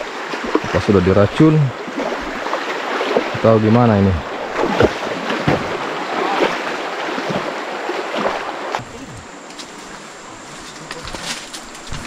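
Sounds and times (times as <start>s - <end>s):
river water rushing over stones: 0.0s - 10.4s
water splashes: 0.0s - 12.0s.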